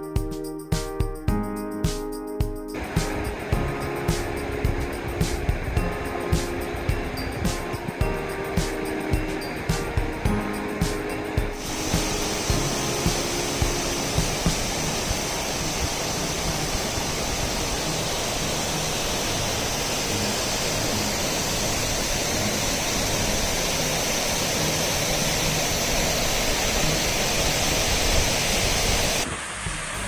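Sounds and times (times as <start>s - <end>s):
waterfall rushing: 2.8s - 30.0s.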